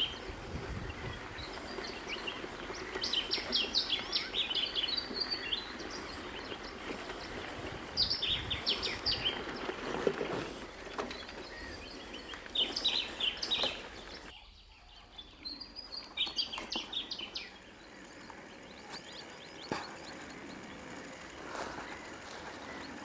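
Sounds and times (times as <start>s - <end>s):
outdoor background hiss: 0.0s - 23.0s
songbirds chirping: 0.0s - 23.0s.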